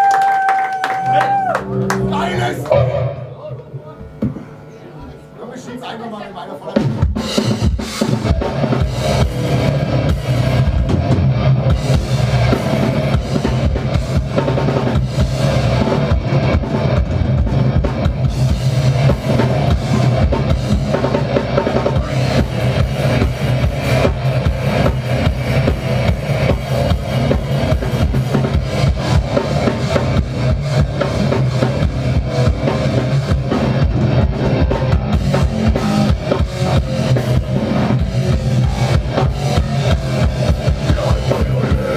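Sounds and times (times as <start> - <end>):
drum kit: 0.0 - 4.6, 6.6 - 41.9
bass guitar: 0.0 - 5.6, 6.8 - 41.9
distorted guitars: 0.0 - 41.9
rapid bass drum strokes: 1.8 - 4.7, 6.7 - 41.9.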